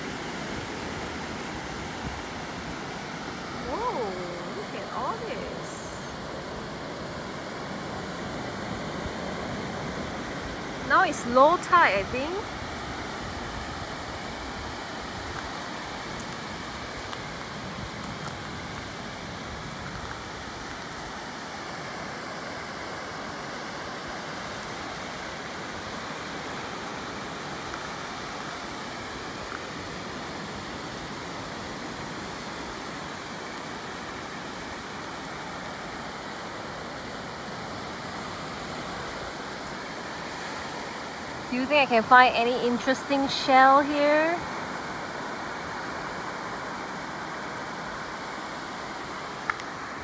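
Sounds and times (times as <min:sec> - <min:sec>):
ocean surf breaking on beach: 0:00.0 - 0:50.0.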